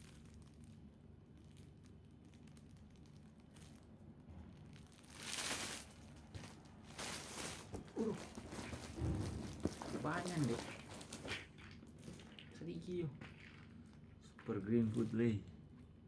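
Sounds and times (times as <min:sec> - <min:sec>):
plastic crinkling and rustling: 0:00.0 - 0:15.8.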